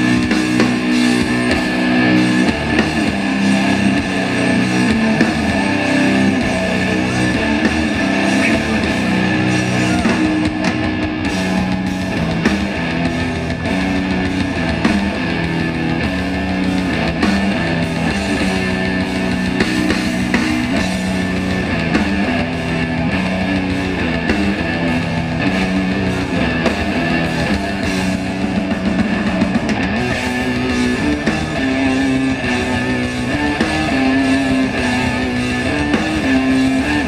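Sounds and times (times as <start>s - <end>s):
death metal band playing live: 0.0s - 37.0s.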